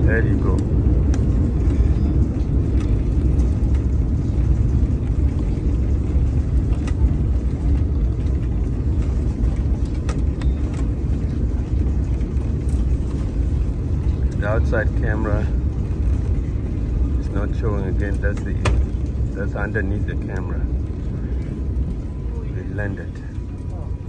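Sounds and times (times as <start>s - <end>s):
jet engines: 0.0s - 24.0s
wheels rumbling on runway: 0.0s - 24.0s.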